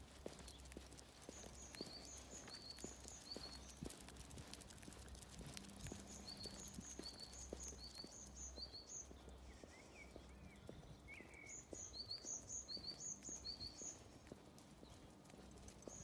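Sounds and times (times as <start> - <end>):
soft low bird chirps: 1.3 - 4.0, 5.8 - 16.0.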